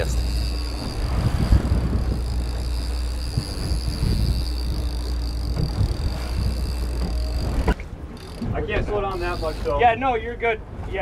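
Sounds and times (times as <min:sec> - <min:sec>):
high-pitched whine: 0:00.0 - 0:08.5, 0:09.1 - 0:09.8
boat engine running: 0:00.0 - 0:11.0.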